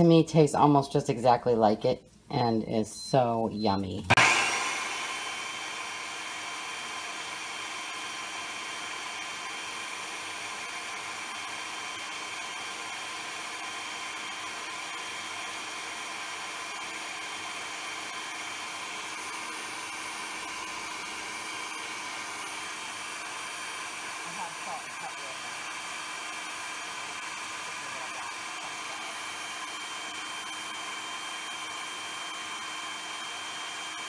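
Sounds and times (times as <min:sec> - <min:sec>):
food processor motor whirring: 0:04.0 - 0:34.0.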